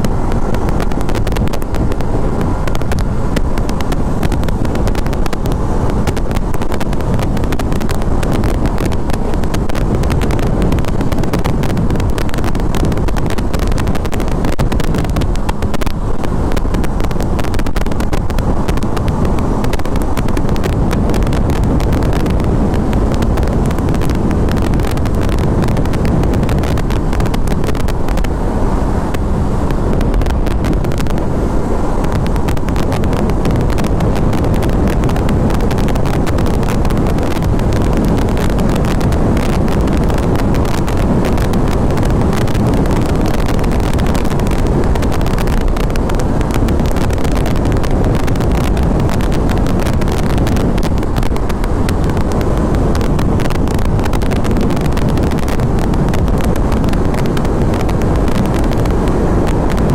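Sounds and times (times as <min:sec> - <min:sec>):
motorcycle engine and tyre noise: 0:00.0 - 0:59.9
wind rushing over microphone: 0:00.0 - 0:59.9.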